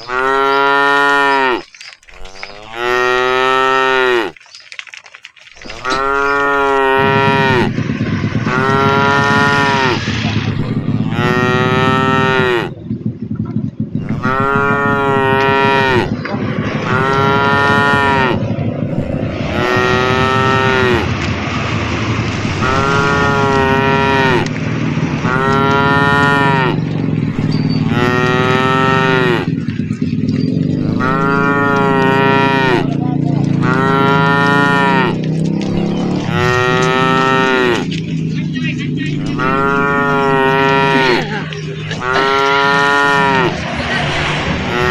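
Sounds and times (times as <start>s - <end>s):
cattle mooing: 0.0s - 13.0s, 14.0s - 44.9s.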